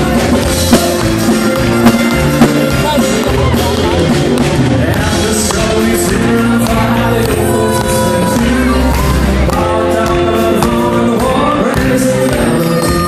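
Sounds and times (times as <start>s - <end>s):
lead singer singing: 0.0s - 13.0s
live band playing country music: 0.0s - 13.0s.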